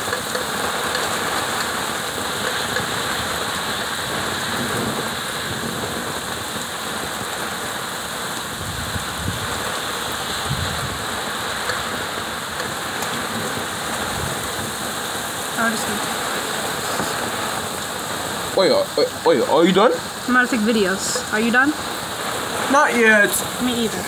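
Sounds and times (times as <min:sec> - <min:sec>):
heavy rain on pavement: 0:00.0 - 0:24.0.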